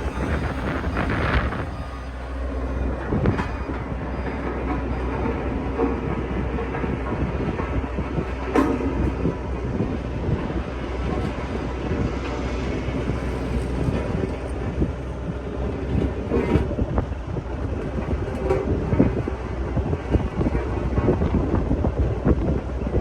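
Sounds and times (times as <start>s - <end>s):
machine clanks and rattles: 0.0s - 23.0s
road roller diesel engine rumbling: 0.0s - 23.0s.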